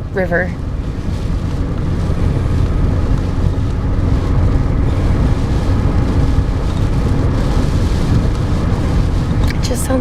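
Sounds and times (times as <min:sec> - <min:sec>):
car road rumble: 0:00.0 - 0:10.0
rain hissing on car: 0:00.0 - 0:10.0.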